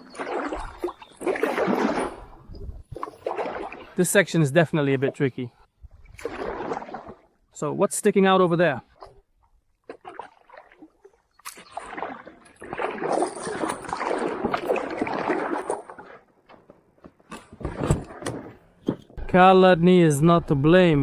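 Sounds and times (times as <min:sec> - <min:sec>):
oars dipping and water sloshing: 0:00.0 - 0:07.9, 0:08.6 - 0:19.0.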